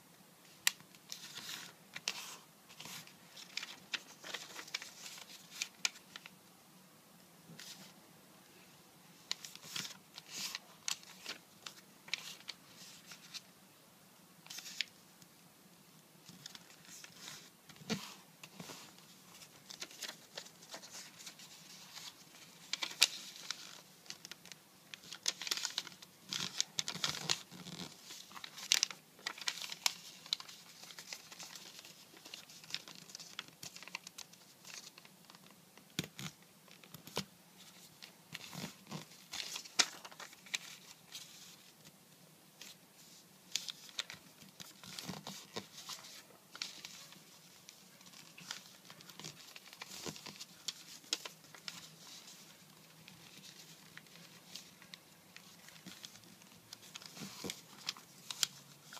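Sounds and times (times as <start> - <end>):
paper crackling as creased: 0.6 - 6.3, 16.3 - 41.7, 42.6 - 58.9
paper rustling and crinkling: 0.6 - 6.3, 9.3 - 13.5, 14.4 - 14.9, 16.2 - 41.9, 42.6 - 58.9.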